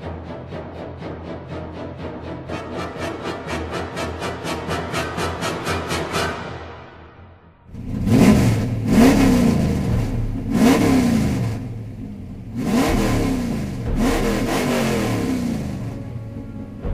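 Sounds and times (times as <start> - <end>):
racing car engine revving: 2.4 - 7.0, 7.7 - 16.9.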